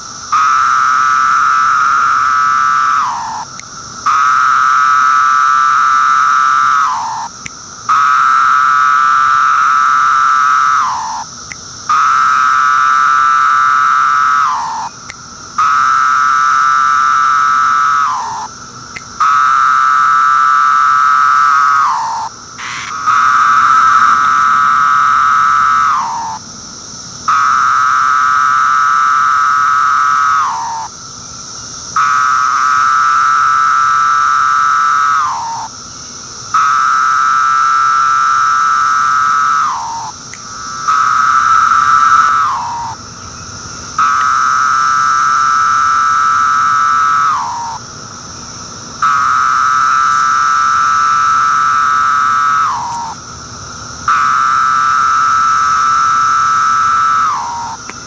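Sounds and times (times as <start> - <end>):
cicada buzzing whine: 0.0 - 58.0.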